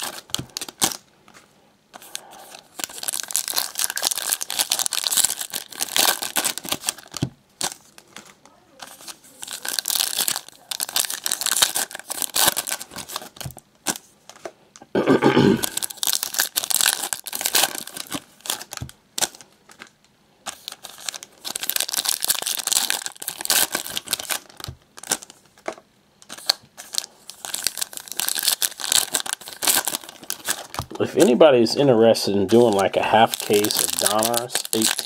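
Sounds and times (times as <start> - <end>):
foil wrappers tearing and crinkling: 0.0 - 1.0, 2.0 - 14.1, 15.6 - 19.9, 20.5 - 31.4, 32.2 - 35.0.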